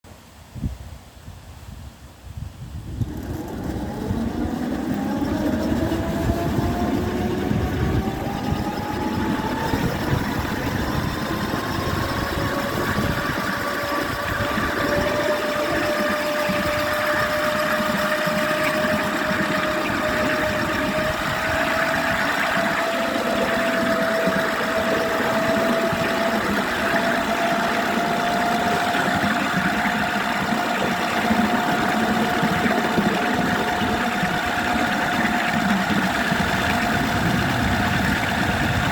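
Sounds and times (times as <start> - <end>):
steady rumbling noise: 1.7 - 38.9
electric locomotive motors whining: 2.9 - 38.9.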